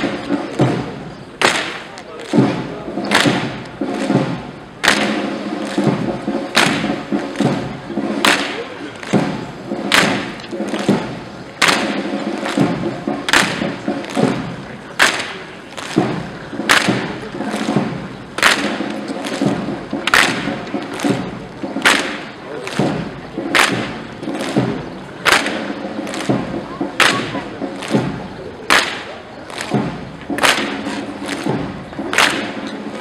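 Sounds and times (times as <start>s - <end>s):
marching footsteps on pavement: 0.0s - 33.0s.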